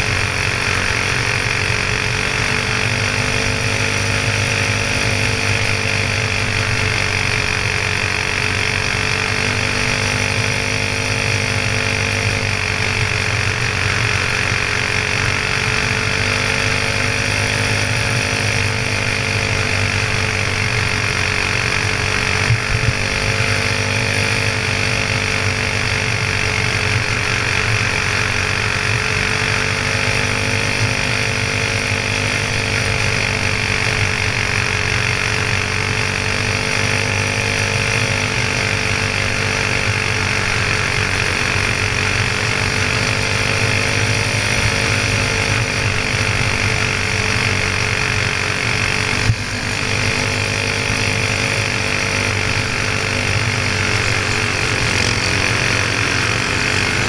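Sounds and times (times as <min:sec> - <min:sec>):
kart engine running hard: 0:00.0 - 0:57.0.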